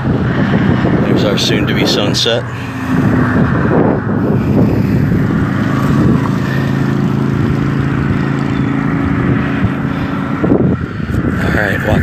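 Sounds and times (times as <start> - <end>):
airplane engine drone: 0.0 - 12.0
traffic noise: 0.0 - 12.0
wind: 0.0 - 12.0.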